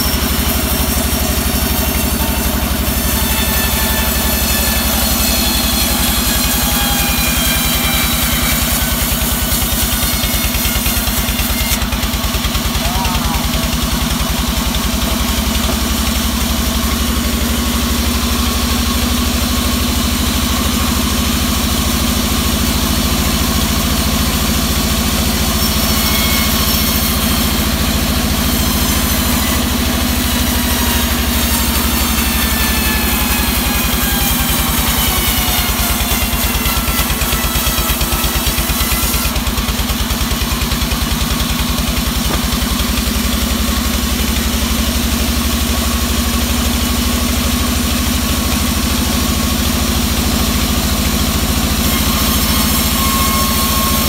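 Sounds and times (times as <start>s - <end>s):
band sawmill running: 0.0s - 54.0s.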